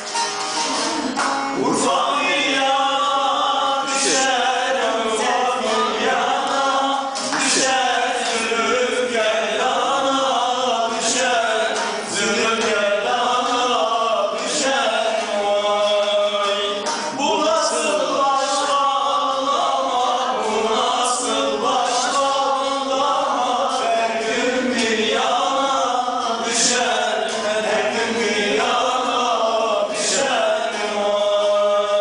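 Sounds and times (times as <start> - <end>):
man singing folk song: 0.0 - 32.0
plucked lute strokes: 0.0 - 32.0.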